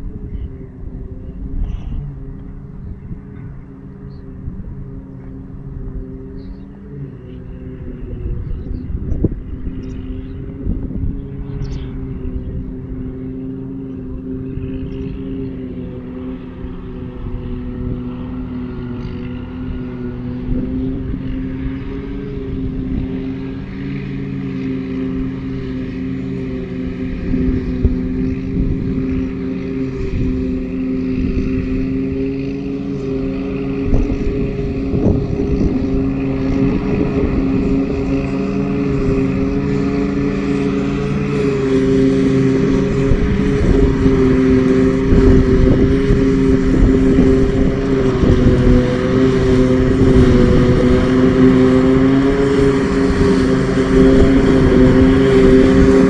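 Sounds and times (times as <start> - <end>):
heavy machine drone: 0.0 - 56.0.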